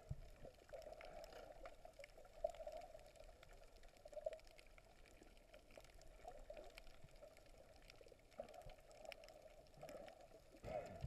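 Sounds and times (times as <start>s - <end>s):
light ticks and crackles: 0.0s - 11.0s
underwater water movement: 0.0s - 11.0s.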